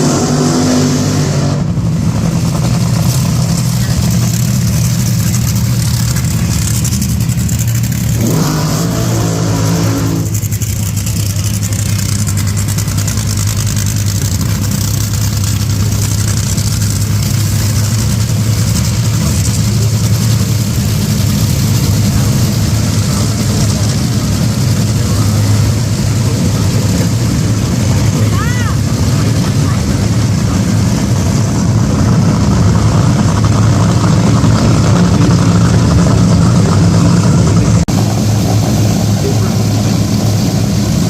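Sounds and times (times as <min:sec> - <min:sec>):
dragster engine idling: 0:00.0 - 0:41.0.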